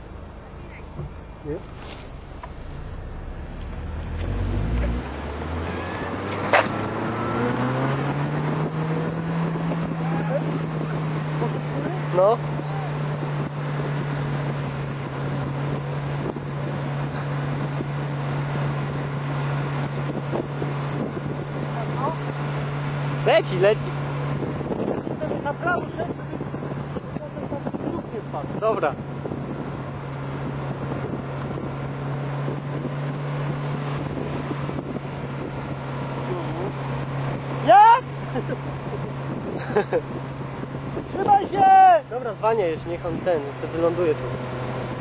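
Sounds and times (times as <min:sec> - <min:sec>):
vehicle engine running: 0:00.0 - 0:45.0
wind buffeting microphone: 0:02.1 - 0:45.0.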